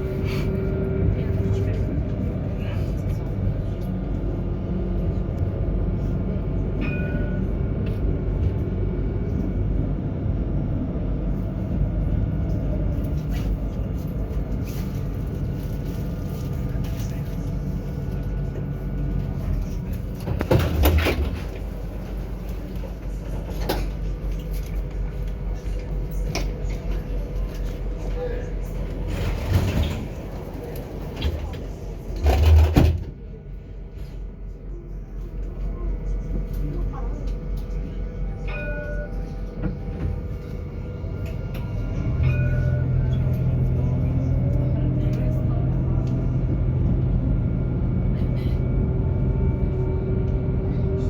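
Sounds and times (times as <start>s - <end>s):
tram motor hum: 0.0s - 51.0s
tram rumbling on rails: 0.0s - 51.0s.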